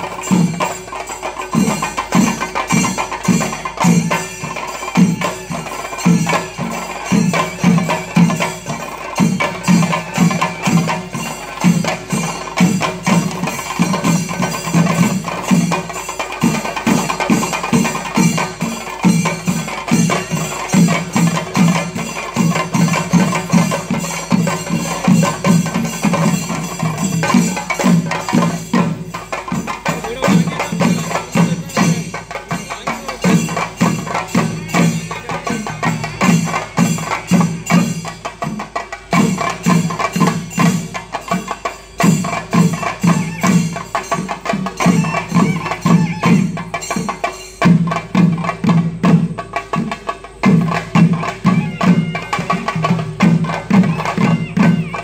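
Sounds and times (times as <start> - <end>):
drums beaten with sticks: 0.0 - 55.0
hand cymbals clashing: 0.0 - 55.0.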